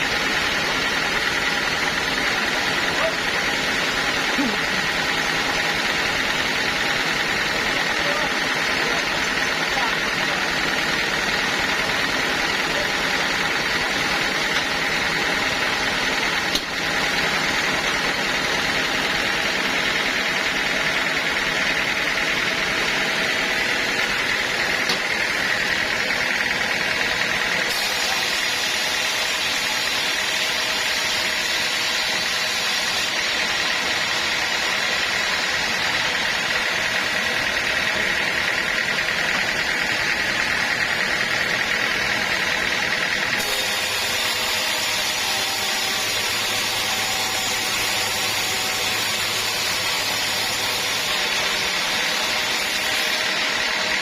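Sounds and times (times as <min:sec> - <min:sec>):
sawmill machinery drone: 0:00.0 - 0:54.0
steady machine whine: 0:00.0 - 0:54.0.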